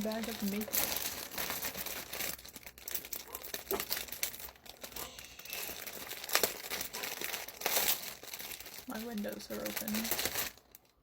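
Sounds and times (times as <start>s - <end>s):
shopping bag crinkling: 0.0s - 11.0s.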